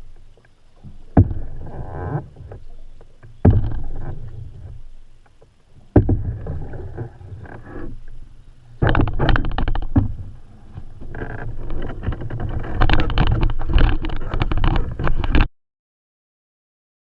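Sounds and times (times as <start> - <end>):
paddle splashing against canoe: 0.0 - 15.4.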